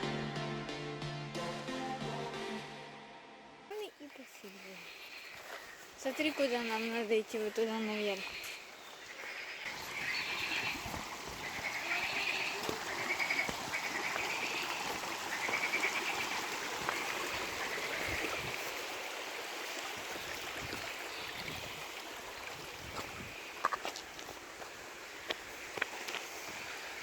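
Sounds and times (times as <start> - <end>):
frogs croaking: 3.7 - 27.0
running water hiss: 3.8 - 27.0.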